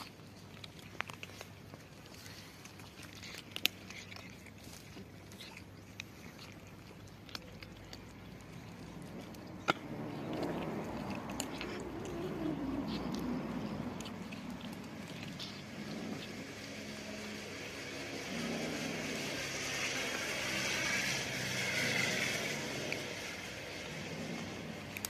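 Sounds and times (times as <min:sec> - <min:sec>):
kittens crunching dry kibble: 0:00.0 - 0:25.0.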